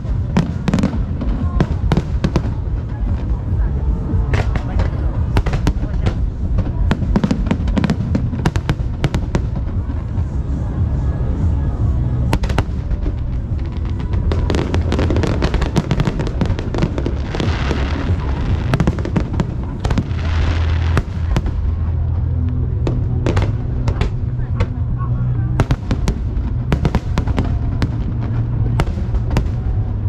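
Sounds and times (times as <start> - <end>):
fireworks bangs: 0.0 - 10.4, 12.2 - 24.8, 25.5 - 30.0
low rumble: 0.0 - 30.0.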